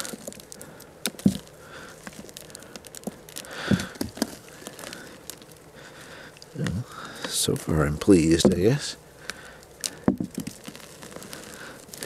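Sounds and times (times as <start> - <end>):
damp soil crumbling: 0.0 - 12.0
roots ripping: 0.0 - 12.0.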